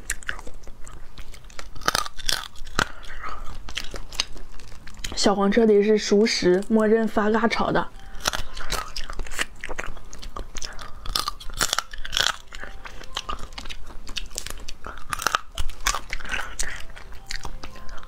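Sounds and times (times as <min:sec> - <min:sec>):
chewing and crunching crab shell: 0:00.0 - 0:18.0.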